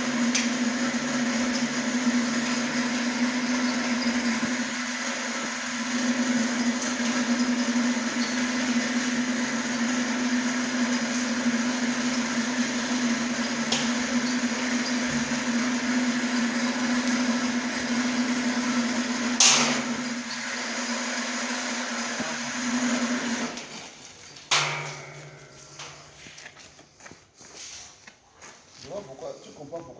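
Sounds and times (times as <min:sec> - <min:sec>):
machine humming and whirring: 0:00.0 - 0:26.4.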